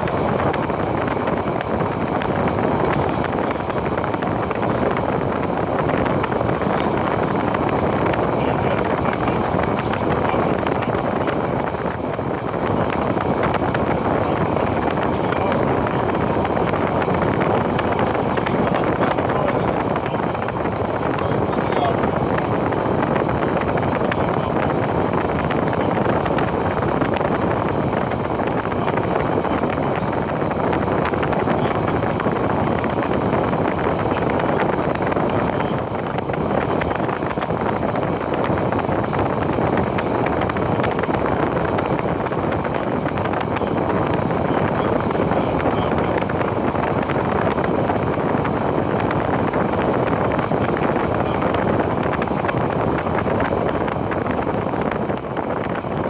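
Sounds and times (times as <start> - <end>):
train carriage rumbling on track: 0.0 - 56.0
wind rushing over microphone: 0.0 - 56.0.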